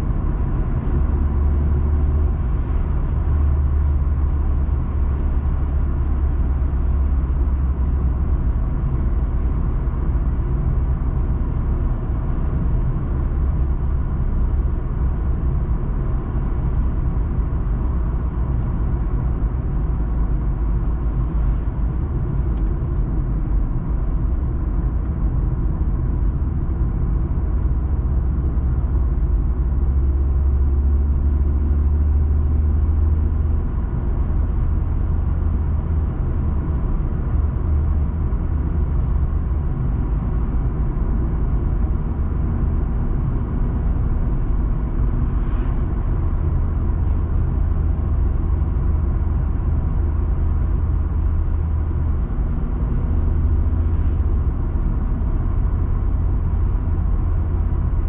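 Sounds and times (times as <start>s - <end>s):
car road noise inside cabin: 0.0s - 58.0s.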